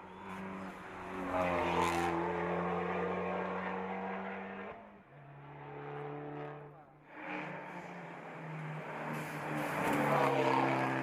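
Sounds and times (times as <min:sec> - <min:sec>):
racing car engine at high revs: 0:00.1 - 0:11.0.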